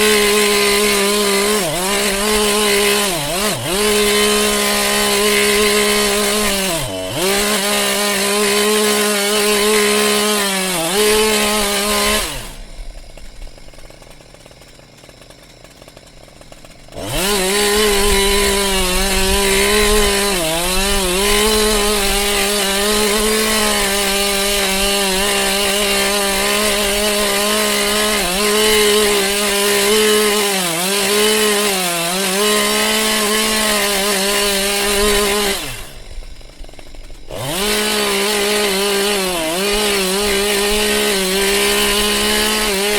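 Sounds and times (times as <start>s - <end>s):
chainsaw cutting into a tree: 0.0s - 42.9s.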